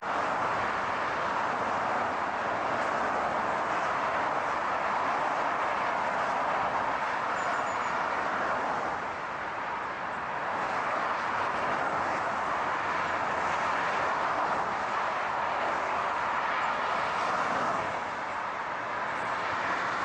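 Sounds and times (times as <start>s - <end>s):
moving vehicle rushing noise: 0.0s - 20.0s.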